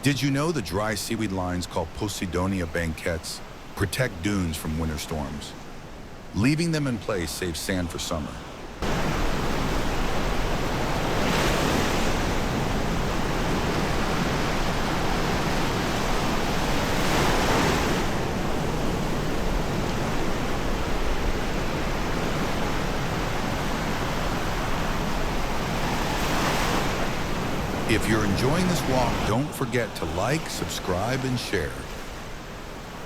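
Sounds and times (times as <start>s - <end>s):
waves washing onto beach: 0.0s - 33.0s.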